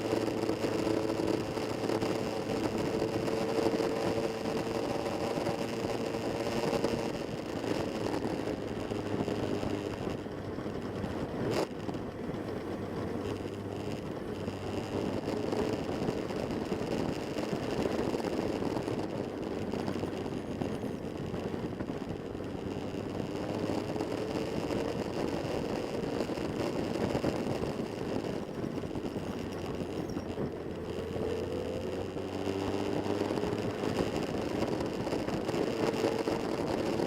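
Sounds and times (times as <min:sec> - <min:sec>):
motorcycle engine running: 0:00.0 - 0:37.0
wind and road noise: 0:00.0 - 0:37.0.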